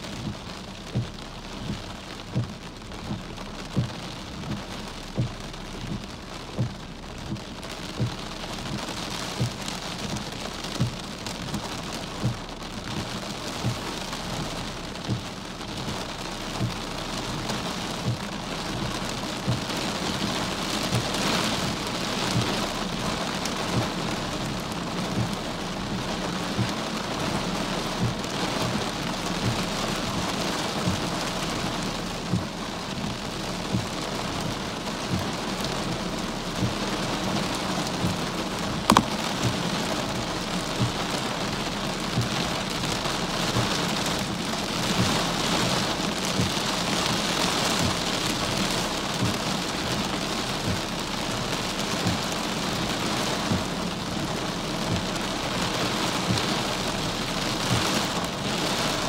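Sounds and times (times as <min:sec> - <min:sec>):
heavy rain pouring: 0:00.0 - 0:59.0
large raindrops tapping: 0:00.0 - 0:59.0.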